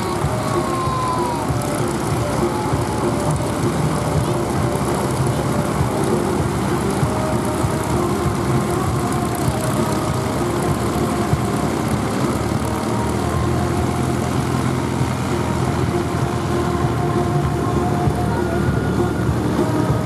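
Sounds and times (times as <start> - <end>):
propeller aircraft engine drone: 0.0 - 20.0.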